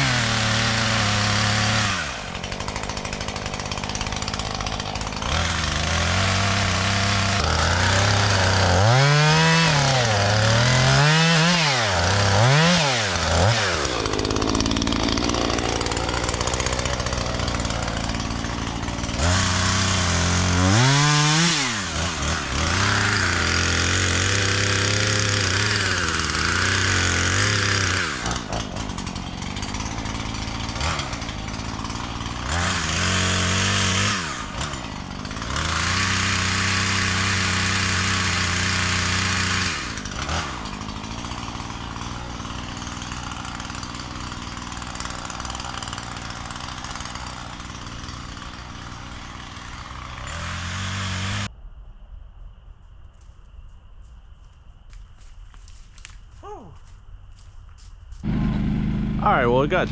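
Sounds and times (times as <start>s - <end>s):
chainsaw engine idling and revving: 0.0s - 51.5s, 58.2s - 59.9s.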